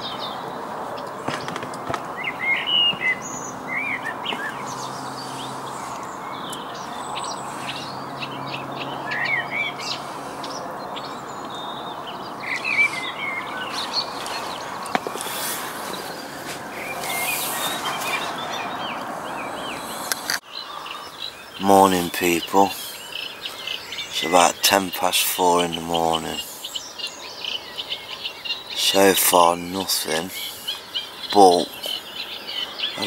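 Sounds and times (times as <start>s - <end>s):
songbirds singing: 0.0s - 33.0s.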